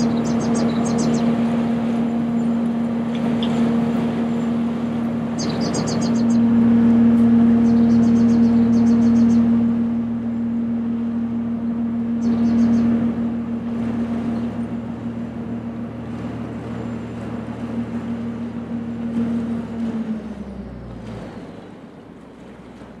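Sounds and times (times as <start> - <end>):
ship diesel engine humming: 0.0 - 23.0.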